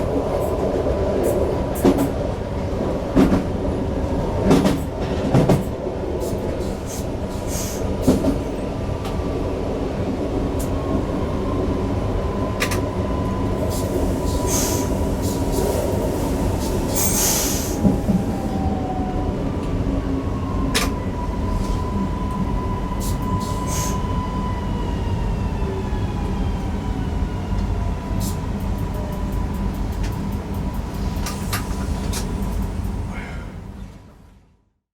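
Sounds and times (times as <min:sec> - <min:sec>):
train rumble: 0:00.0 - 0:34.5.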